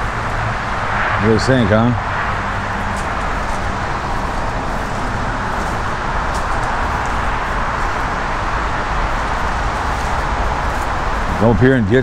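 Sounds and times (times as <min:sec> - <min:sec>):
freeway traffic roar: 0:00.0 - 0:12.0.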